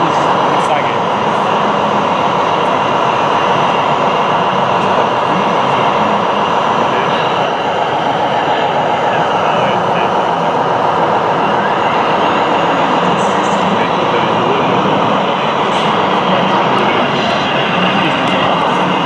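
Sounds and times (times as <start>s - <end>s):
model truck motors whining: 0.0s - 19.0s.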